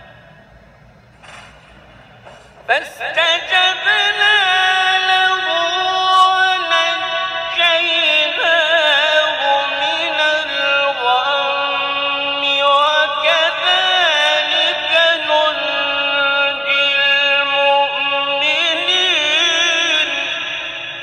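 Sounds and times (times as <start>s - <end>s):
man reciting melodically: 2.7s - 21.0s.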